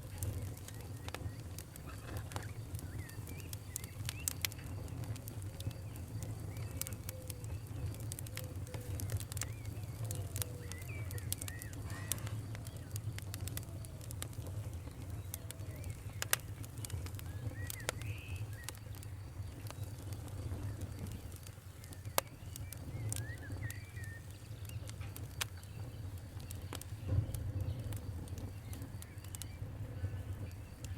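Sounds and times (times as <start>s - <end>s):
campfire crackling and popping: 0.0s - 30.9s
bird chirping: 0.2s - 13.2s, 14.6s - 30.9s.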